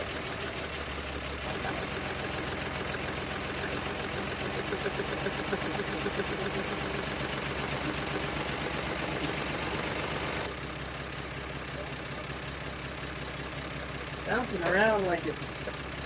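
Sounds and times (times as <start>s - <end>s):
car engine idling roughly: 0.0s - 16.0s.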